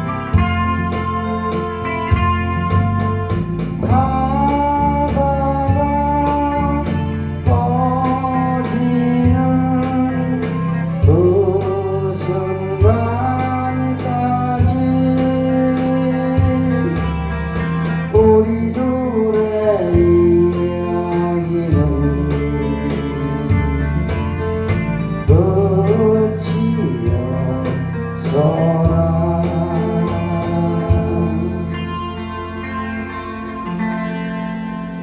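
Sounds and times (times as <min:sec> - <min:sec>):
gliding melody line: 0:00.0 - 0:35.0
guitar accompaniment: 0:00.0 - 0:35.0.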